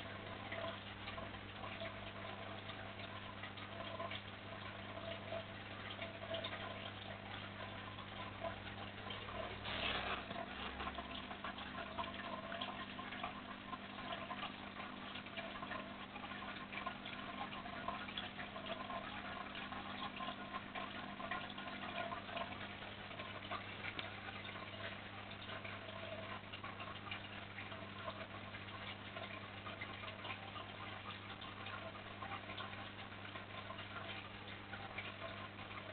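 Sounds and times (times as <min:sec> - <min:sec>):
aquarium filter hum: 0:00.0 - 0:35.9.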